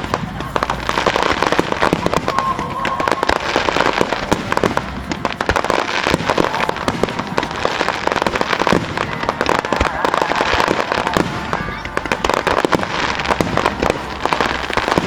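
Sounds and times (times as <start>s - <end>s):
fireworks crackling pops: 0.0s - 15.0s.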